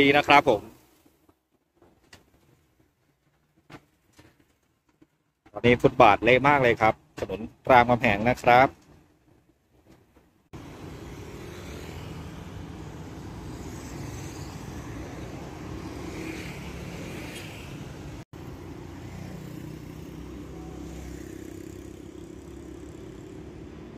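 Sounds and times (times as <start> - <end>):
road traffic: 0.0 - 23.9.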